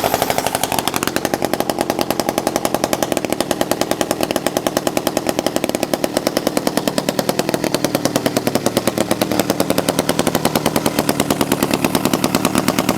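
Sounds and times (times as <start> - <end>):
chainsaw two-stroke engine running: 0.0 - 12.9.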